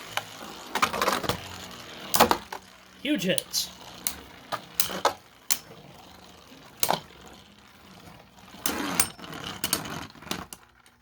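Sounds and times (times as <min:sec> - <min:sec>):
spinning tops clacking together: 0:00.0 - 0:10.8
spinning tops whirring: 0:00.0 - 0:11.0.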